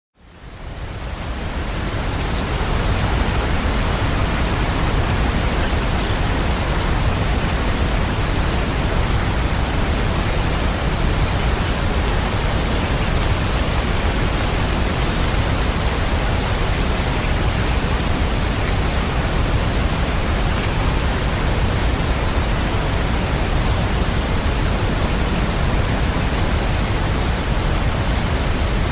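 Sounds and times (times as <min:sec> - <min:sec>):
dense rain hiss: 0:00.2 - 0:28.9.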